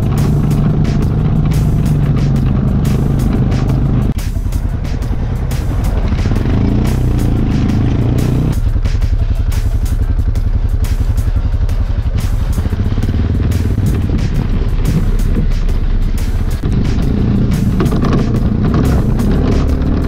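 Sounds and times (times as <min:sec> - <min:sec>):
background music: 0:00.0 - 0:20.0
quad bike engine running: 0:00.0 - 0:20.0.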